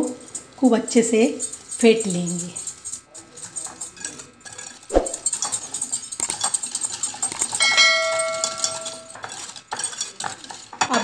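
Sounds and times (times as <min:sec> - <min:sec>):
whisk clicking against glass bowl: 0:00.0 - 0:11.0.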